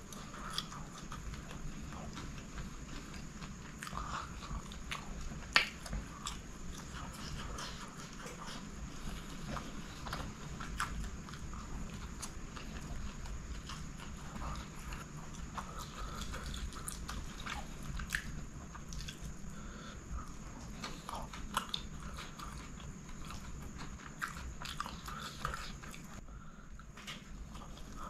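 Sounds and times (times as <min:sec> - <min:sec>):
close wet chewing: 0:00.0 - 0:28.0.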